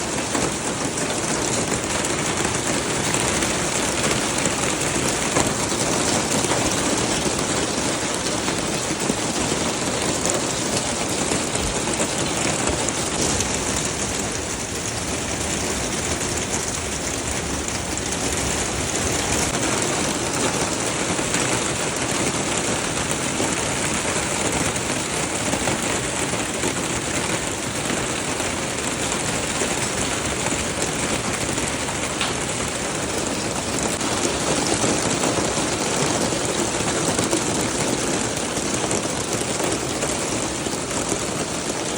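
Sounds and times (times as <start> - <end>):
hailstones clattering: 0.0 - 41.9.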